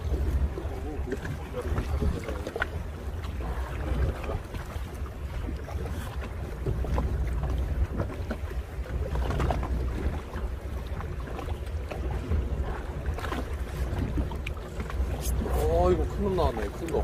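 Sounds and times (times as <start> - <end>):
water slapping against boat hull: 0.0 - 17.0
wind rumbling on microphone: 0.0 - 17.0.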